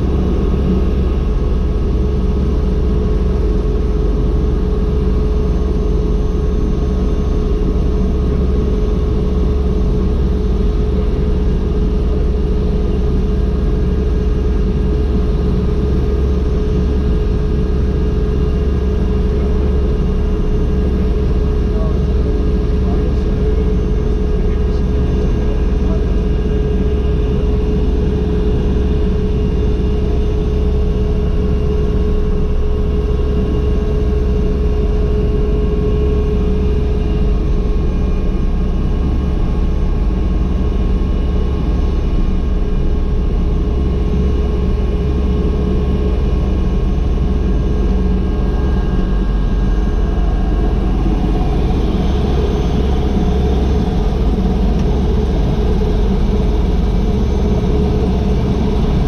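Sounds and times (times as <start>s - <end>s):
helicopter engine idling: 0.0s - 59.0s.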